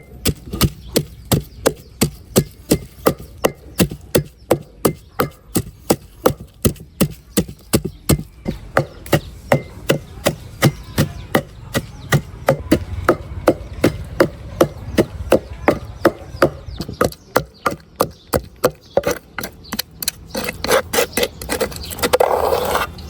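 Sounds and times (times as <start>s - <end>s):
knife chopping on wooden board: 0.0s - 22.3s.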